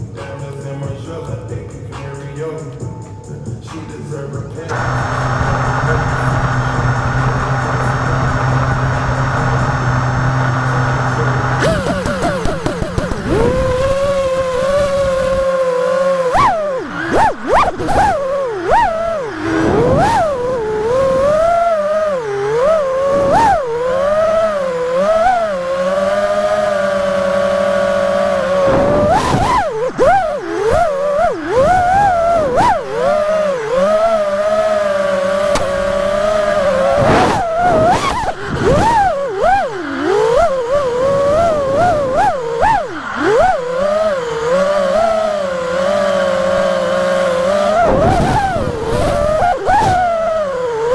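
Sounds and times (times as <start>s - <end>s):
drone motors whining: 4.6s - 50.9s.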